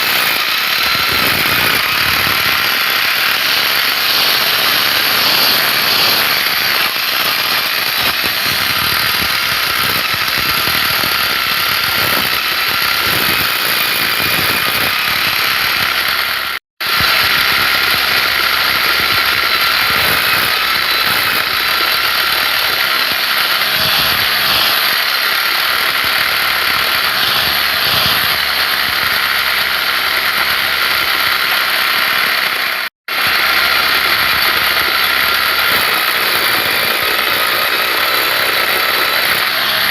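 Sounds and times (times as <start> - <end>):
motor whirring: 0.0 - 39.9.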